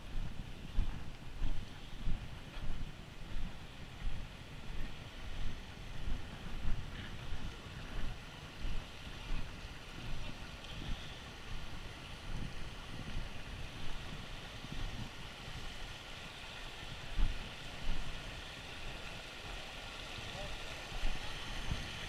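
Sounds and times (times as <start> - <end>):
wind buffeting microphone: 0.0 - 22.0
stream running over rocks: 0.4 - 22.0.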